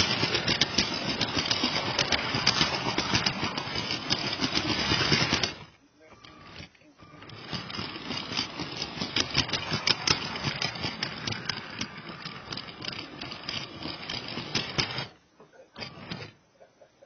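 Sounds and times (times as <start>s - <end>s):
toy train rattling on track: 0.0s - 16.4s.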